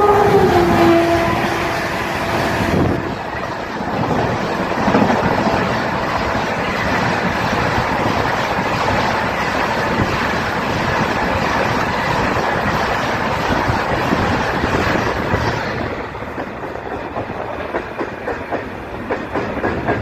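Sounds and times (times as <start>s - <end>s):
train running at speed: 0.0s - 20.0s.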